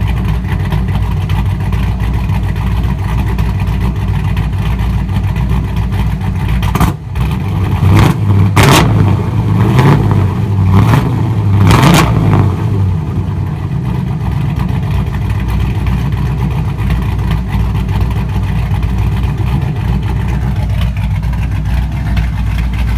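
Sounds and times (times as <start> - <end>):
engine revving and idling: 0.0 - 22.9.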